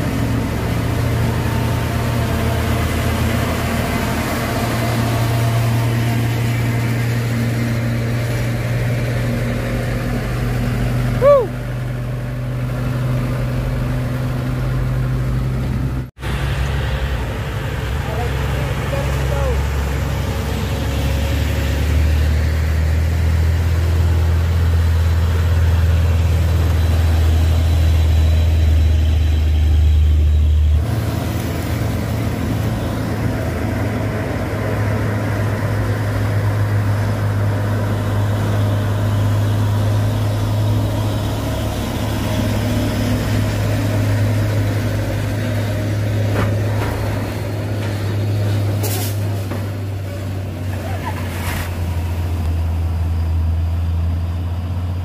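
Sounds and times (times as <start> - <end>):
diesel truck engines droning: 0.0 - 55.0.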